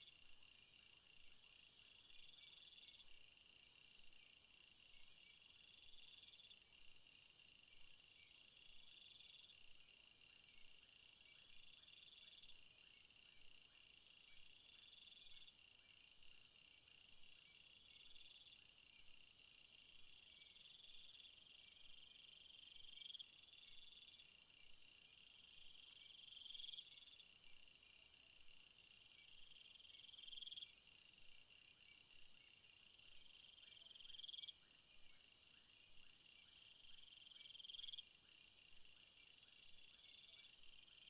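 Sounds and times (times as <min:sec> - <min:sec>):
crickets chirping in bursts: 0:00.0 - 0:41.0.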